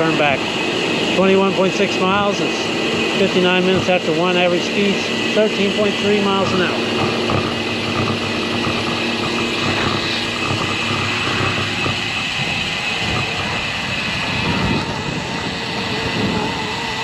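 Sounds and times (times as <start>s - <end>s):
traffic: 0.0s - 17.0s
tyres humming on road: 0.0s - 17.0s
wind rushing on microphone: 0.0s - 17.0s.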